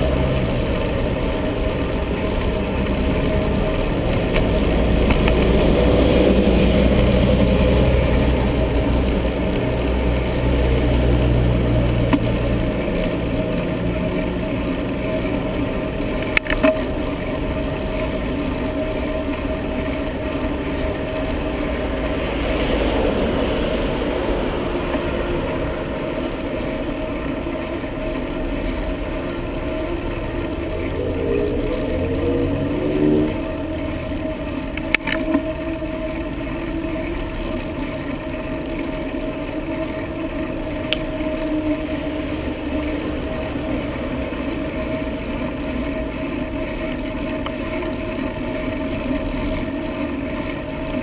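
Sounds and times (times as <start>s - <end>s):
motor vehicle engine hum: 0.0s - 51.0s
wind and road noise: 0.0s - 51.0s.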